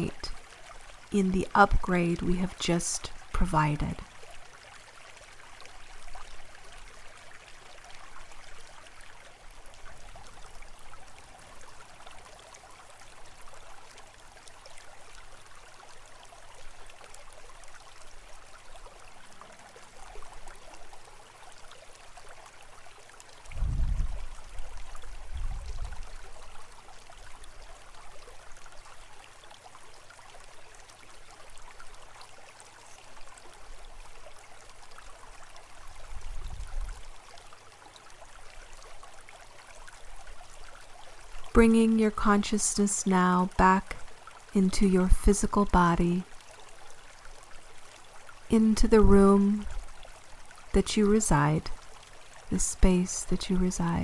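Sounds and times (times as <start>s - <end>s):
stream trickling and rushing: 0.0s - 44.6s, 45.5s - 54.0s.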